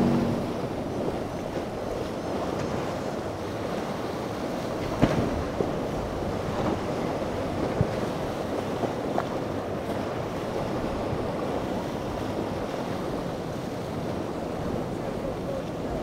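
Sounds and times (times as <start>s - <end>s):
powerboat running: 0.0s - 16.0s
surf and churning water: 0.0s - 16.0s
wind buffeting microphone: 0.0s - 16.0s.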